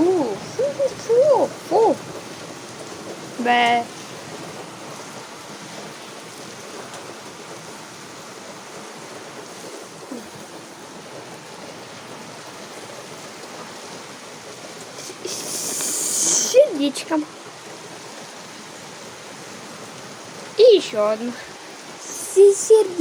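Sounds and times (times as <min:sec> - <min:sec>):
steady rain downpour: 0:00.0 - 0:23.0.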